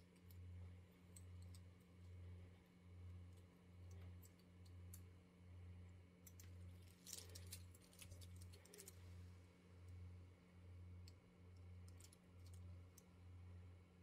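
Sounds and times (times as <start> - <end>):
low pulsing hum: 0.0 - 14.0.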